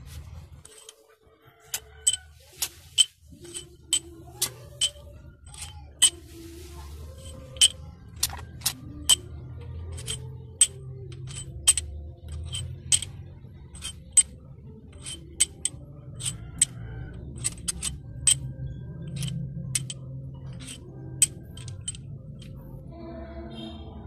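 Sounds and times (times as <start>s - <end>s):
metal bolts clinking together: 0.6s - 1.0s, 1.7s - 6.2s, 7.2s - 9.3s, 9.9s - 22.6s.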